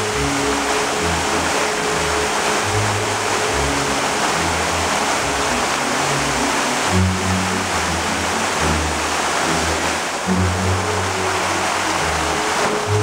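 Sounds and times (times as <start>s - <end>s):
fountain water splashing: 0.0s - 13.0s
low music: 0.0s - 13.0s.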